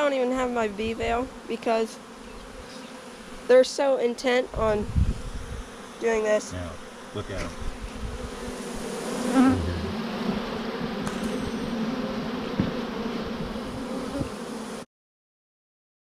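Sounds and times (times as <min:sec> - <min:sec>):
bee swarm humming: 0:00.0 - 0:14.9.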